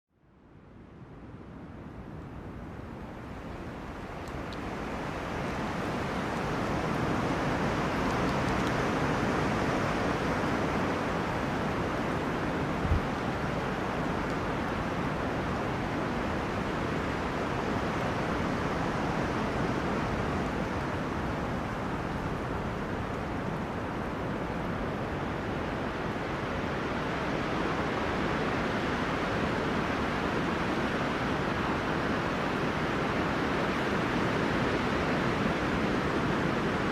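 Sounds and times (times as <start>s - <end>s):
wind through trees: 0.1s - 36.9s.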